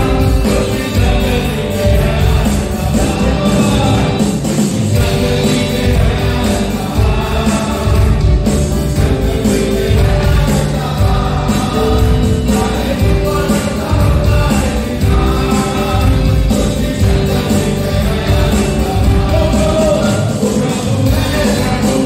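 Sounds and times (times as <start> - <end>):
man singing lead: 0.0 - 22.0
worship band playing: 0.0 - 22.0.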